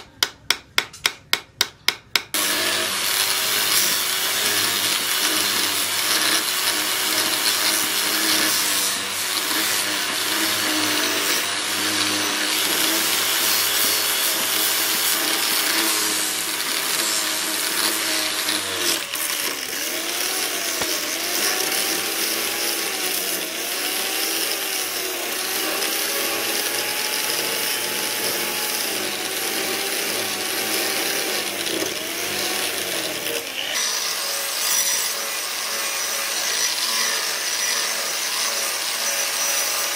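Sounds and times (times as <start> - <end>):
angle grinder grinding steel: 2.3 - 39.9.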